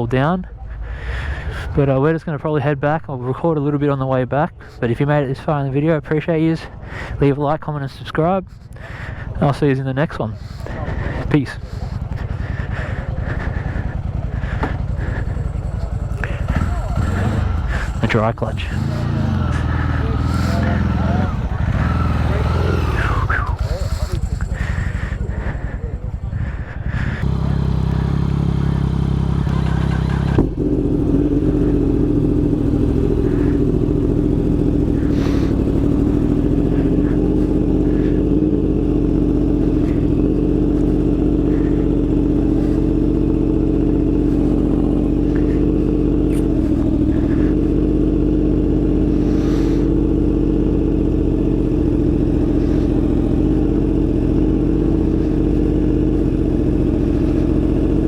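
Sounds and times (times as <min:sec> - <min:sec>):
motorcycle engine idling: 0:08.4 - 0:58.0.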